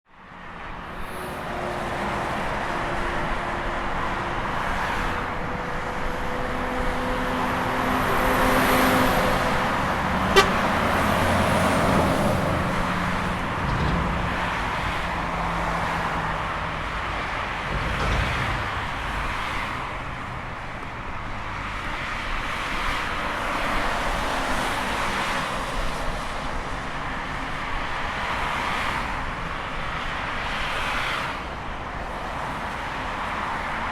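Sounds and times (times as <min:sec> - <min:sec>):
highway traffic: 0:00.0 - 0:33.9.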